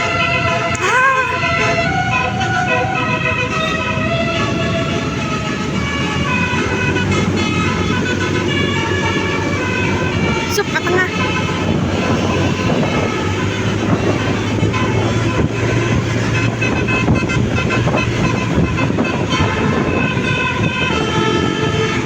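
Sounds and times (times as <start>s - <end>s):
bus engine humming: 0.0s - 22.0s
multi-tone musical bus horn: 0.0s - 22.0s.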